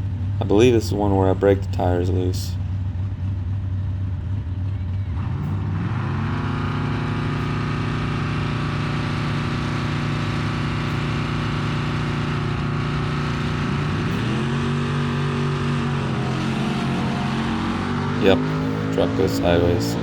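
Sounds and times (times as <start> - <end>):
truck engine running hard: 0.0 - 20.0.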